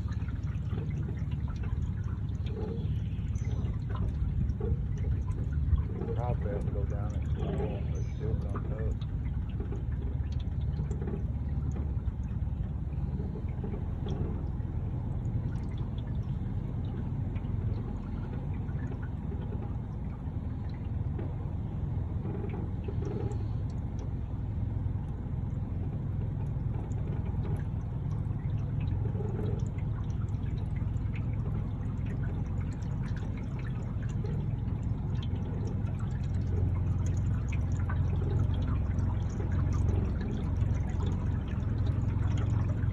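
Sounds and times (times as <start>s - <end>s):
boat motor hum: 0.0s - 42.9s
water rushing along hull: 0.0s - 42.9s.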